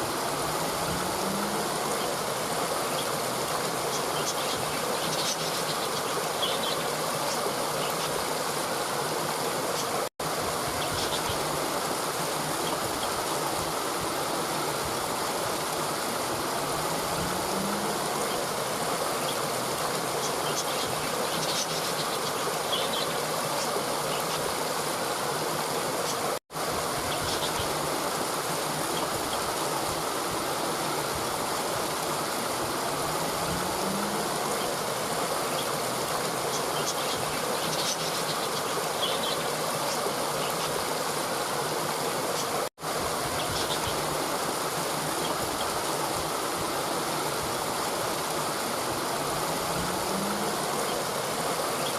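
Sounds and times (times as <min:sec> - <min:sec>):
stream of running water: 0:00.0 - 0:51.9.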